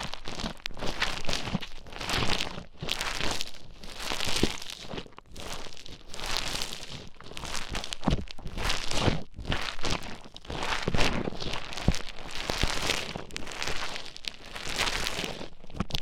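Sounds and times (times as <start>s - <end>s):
beaded foam crackling and crunching: 0.0s - 16.0s.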